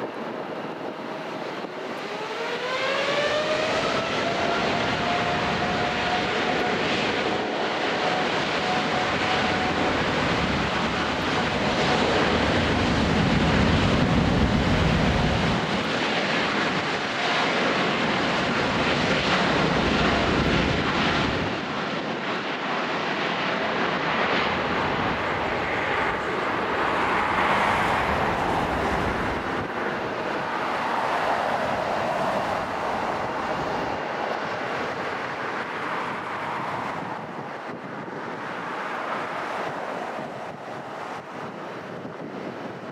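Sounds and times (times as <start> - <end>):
airliner engines rushing: 0.0 - 42.9.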